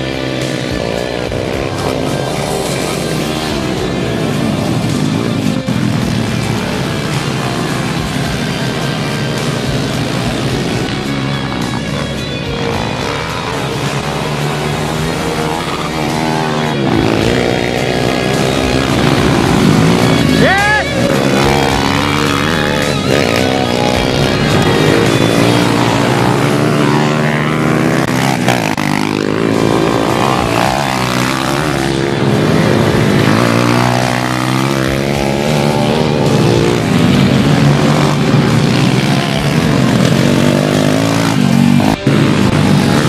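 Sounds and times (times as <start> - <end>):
pit bike engines revving: 0.0 - 43.0.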